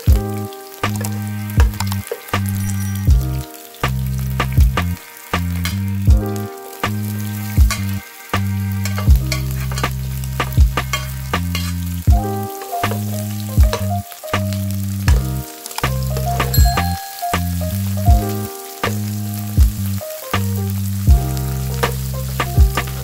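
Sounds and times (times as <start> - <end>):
lofi music with steady beat: 0.0 - 2.5, 3.1 - 11.5, 12.1 - 23.0
food frying in oil: 0.0 - 23.0.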